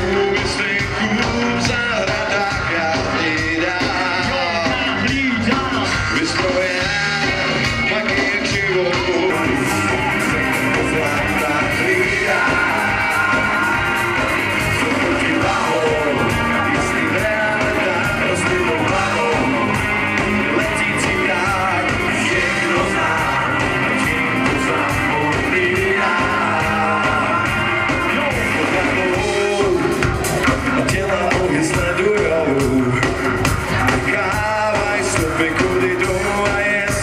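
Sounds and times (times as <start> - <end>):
men singing: 0.0 - 33.0, 33.8 - 37.0
drum beat: 0.0 - 37.0
electric guitars: 0.0 - 37.0
live band playing: 0.0 - 37.0.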